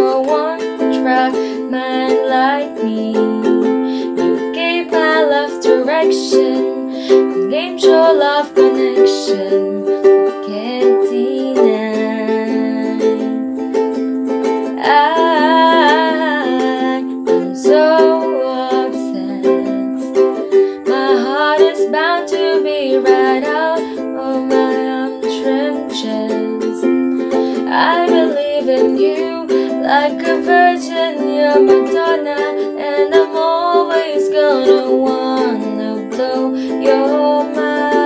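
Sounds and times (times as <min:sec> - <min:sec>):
woman singing: 0:00.0 - 0:13.8, 0:14.4 - 0:38.0
ukulele strumming chords: 0:00.0 - 0:38.0.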